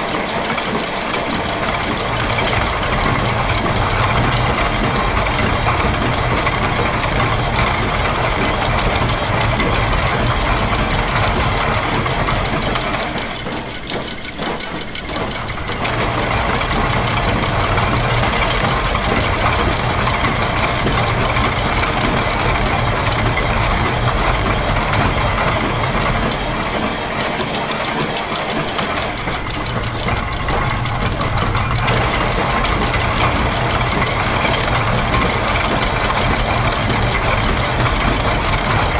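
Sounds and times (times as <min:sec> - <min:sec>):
clockwork ticking: 0:00.0 - 0:38.9
gears turning: 0:00.0 - 0:38.9
sewing machine: 0:00.0 - 0:38.9.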